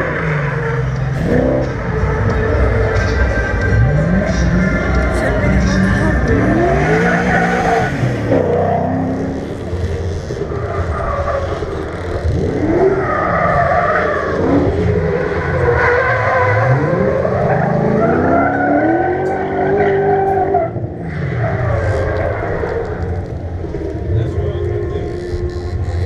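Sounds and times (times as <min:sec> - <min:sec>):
engines revving and accelerating: 0:00.0 - 0:26.0.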